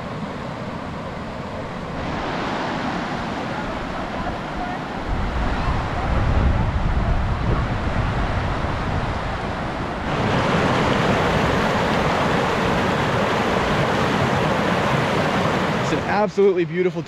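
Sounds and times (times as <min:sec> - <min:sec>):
rapids rushing over rocks: 0:00.0 - 0:16.9.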